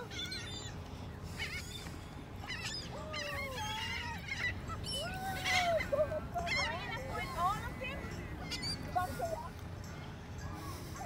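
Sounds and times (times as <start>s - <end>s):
gulls squawking: 0.0s - 9.6s.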